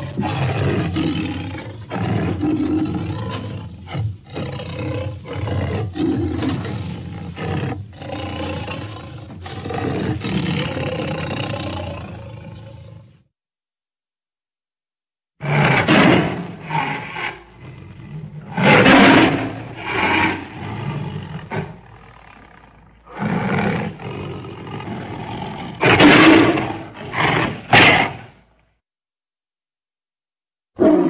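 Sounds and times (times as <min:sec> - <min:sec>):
tiger roaring and growling: 0:00.0 - 0:13.2, 0:15.4 - 0:28.5, 0:30.8 - 0:31.0.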